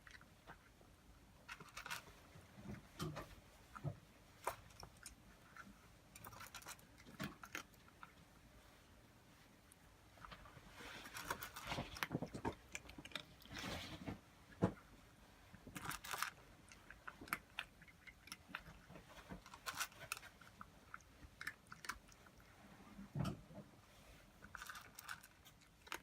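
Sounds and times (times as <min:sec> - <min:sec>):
cat chewing and crunching food: 0:00.0 - 0:26.0.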